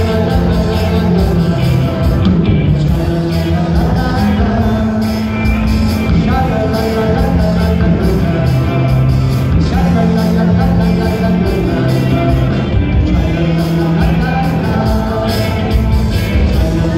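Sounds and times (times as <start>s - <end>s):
live band music: 0.0s - 16.9s
man singing: 0.0s - 16.9s.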